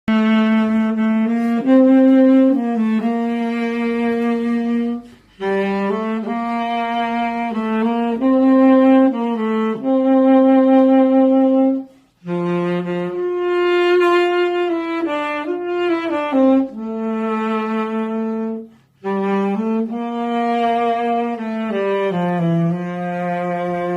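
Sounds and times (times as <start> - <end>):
tenor saxophone slow melody: 0.1 - 23.9.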